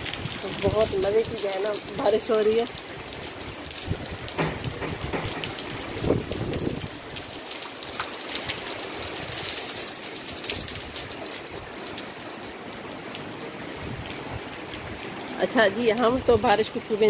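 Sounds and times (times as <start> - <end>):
close drips and splashes: 0.0 - 17.0
heavy rain: 0.0 - 17.0.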